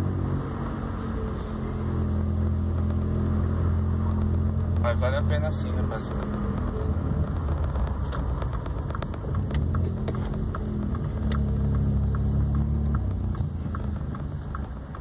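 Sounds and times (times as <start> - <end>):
road noise: 0.0 - 15.0
car engine running: 2.2 - 15.0.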